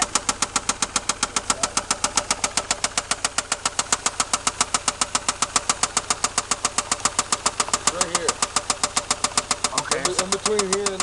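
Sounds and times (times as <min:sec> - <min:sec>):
car engine idling: 0:00.0 - 0:11.0
sharp regular engine knock: 0:00.0 - 0:11.0.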